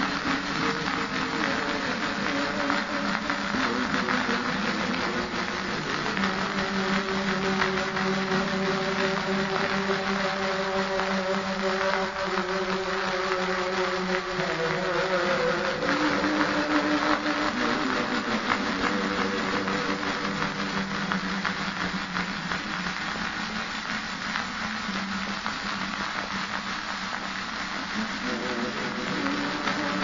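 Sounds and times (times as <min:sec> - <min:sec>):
hiss and crackle: 0:00.0 - 0:30.0
low droning ambient notes: 0:00.0 - 0:30.0.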